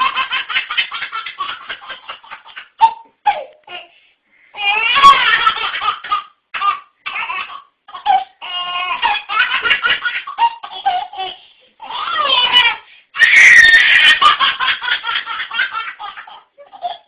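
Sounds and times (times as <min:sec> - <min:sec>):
baby belly-laughing: 0:00.0 - 0:03.9, 0:04.6 - 0:17.0.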